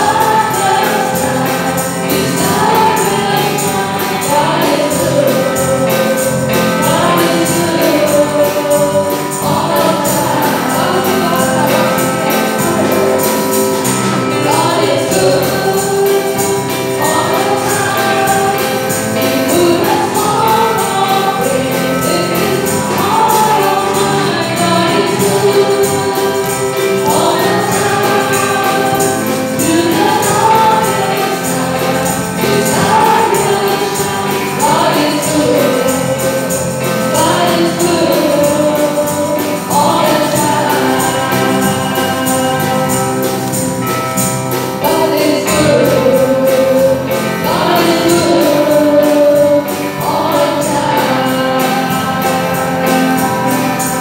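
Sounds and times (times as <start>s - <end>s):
live band playing: 0.0s - 54.0s
women singing gospel song: 0.0s - 54.0s.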